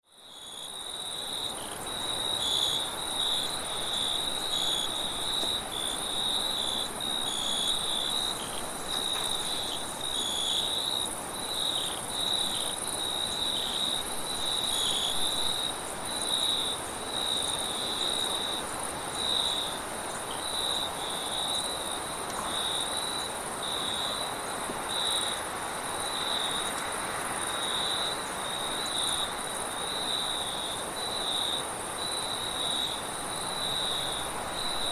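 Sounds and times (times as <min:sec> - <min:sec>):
crickets chirping: 0:00.1 - 0:34.9
high steady insect trill: 0:00.1 - 0:34.9
wind-like hiss: 0:00.1 - 0:34.9.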